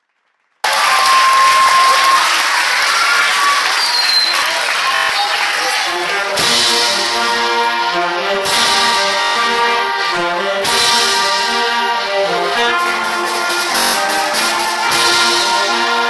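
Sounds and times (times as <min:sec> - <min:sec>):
school ensemble playing a tune: 0:01.6 - 0:16.0.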